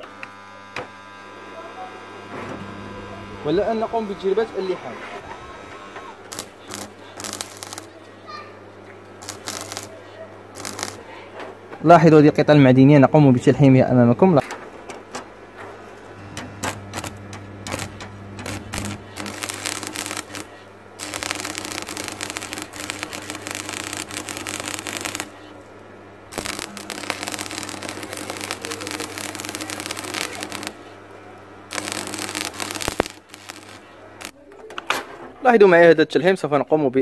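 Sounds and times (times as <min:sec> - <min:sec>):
welding arc crackling: 0:00.0 - 0:11.8, 0:14.6 - 0:34.4
transformer hum: 0:00.0 - 0:11.9, 0:14.3 - 0:34.4.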